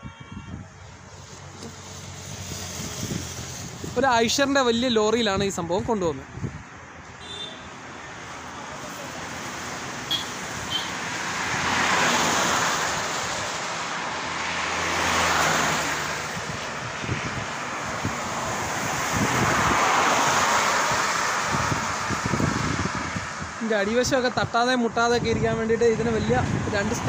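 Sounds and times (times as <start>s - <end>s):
highway traffic passing: 0.0s - 27.0s.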